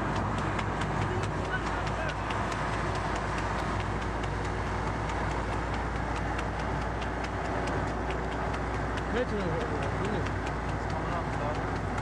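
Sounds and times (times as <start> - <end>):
light regular ticking: 0.0 - 12.0
vehicle engine and road rumble: 0.0 - 12.0.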